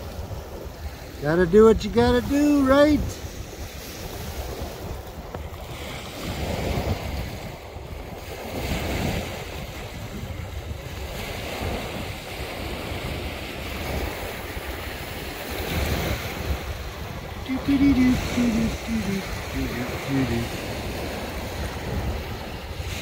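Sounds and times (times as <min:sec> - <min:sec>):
waves washing onto rocky shore: 0:00.0 - 0:23.0
wind buffeting microphone: 0:00.0 - 0:23.0.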